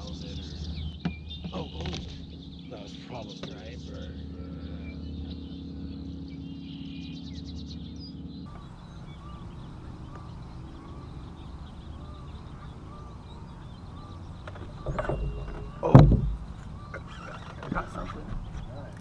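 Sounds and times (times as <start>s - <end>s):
birds calling: 0.0s - 19.0s
steady low hum: 0.0s - 19.0s.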